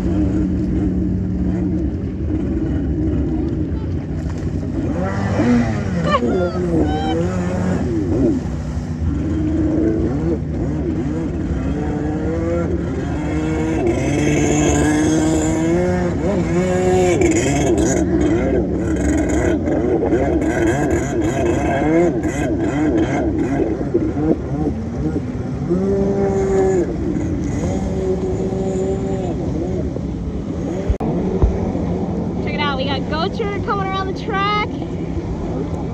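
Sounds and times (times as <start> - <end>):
jet ski engine revving: 0.0 - 35.9
water churning around hull: 0.0 - 35.9.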